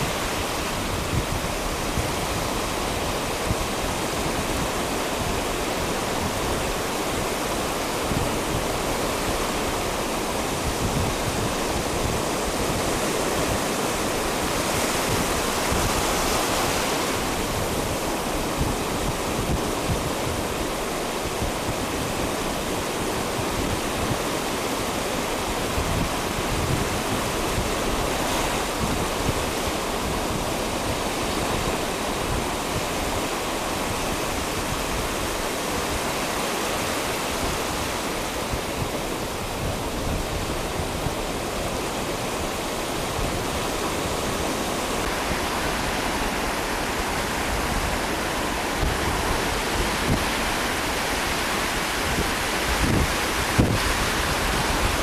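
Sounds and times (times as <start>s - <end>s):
ocean surf washing up beach: 0.0s - 55.0s.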